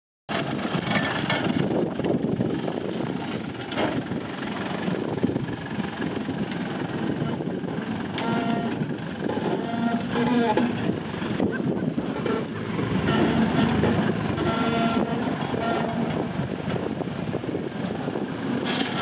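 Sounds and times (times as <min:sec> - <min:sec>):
off-road vehicle engine running: 0:00.3 - 0:19.0.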